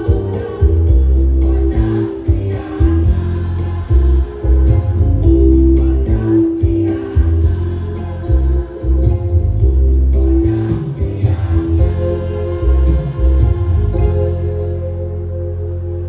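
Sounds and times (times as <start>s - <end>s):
choir singing: 0.0s - 16.0s
musical accompaniment: 0.0s - 16.0s
pulsing bass: 0.0s - 16.0s.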